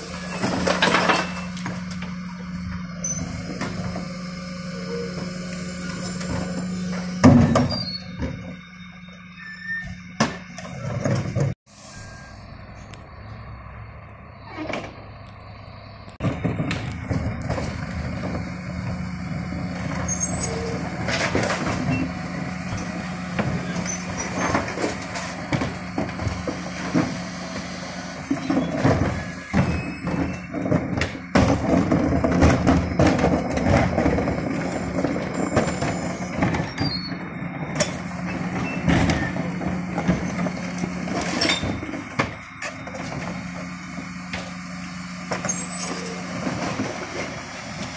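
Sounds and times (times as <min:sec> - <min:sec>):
wheelie bins clattering and banging: 0:00.0 - 0:11.6, 0:16.2 - 0:47.9
refuse truck running: 0:00.0 - 0:47.9.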